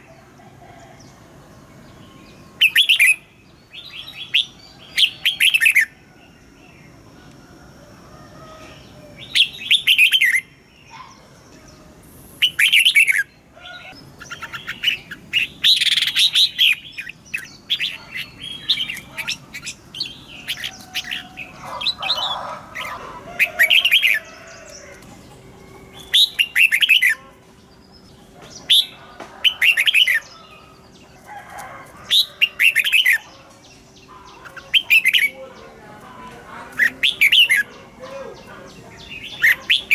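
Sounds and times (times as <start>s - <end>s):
bird rapid chirping song: 1.7s - 6.4s, 8.7s - 31.3s, 32.0s - 35.9s, 36.6s - 39.9s.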